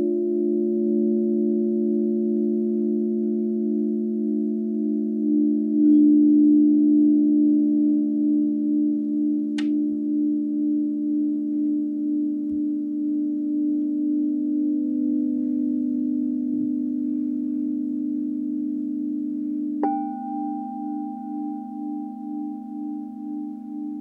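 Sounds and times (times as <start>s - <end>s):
crystal singing bowls: 0.0s - 24.0s.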